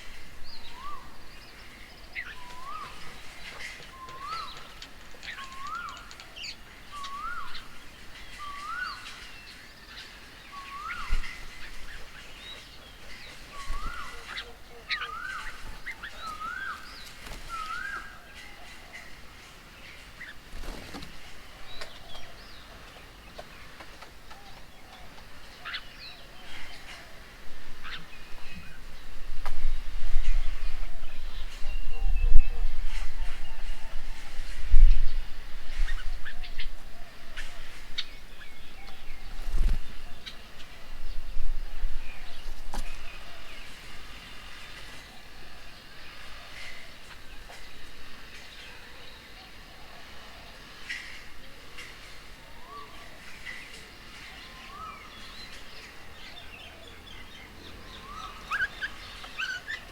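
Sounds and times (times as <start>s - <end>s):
birds whistling and chattering: 0.0s - 59.9s.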